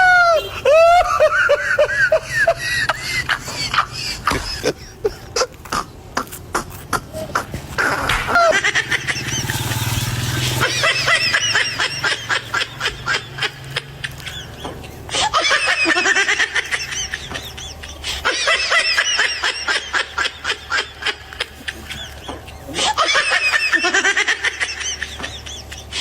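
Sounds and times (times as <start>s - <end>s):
rapid high-pitched laughter: 0.0s - 26.0s.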